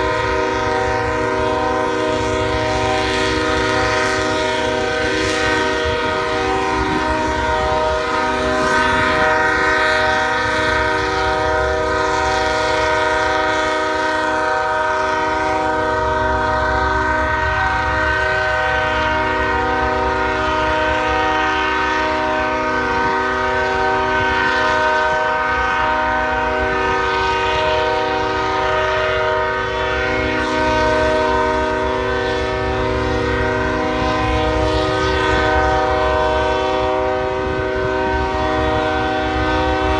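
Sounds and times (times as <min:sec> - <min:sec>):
locomotive air horn blast: 0:00.0 - 0:39.9
train rumble: 0:00.0 - 0:39.9.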